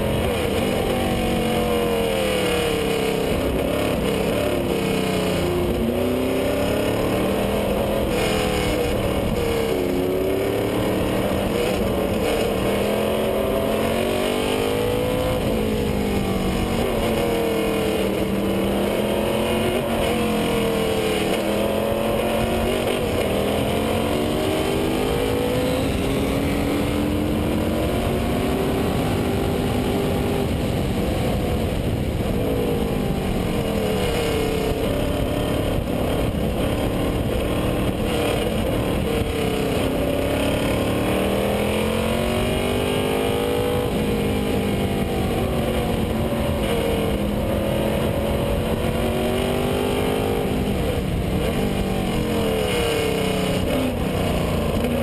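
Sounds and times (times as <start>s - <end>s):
racing car engine revving: 0.0s - 55.0s
steady rush of noise: 0.0s - 55.0s.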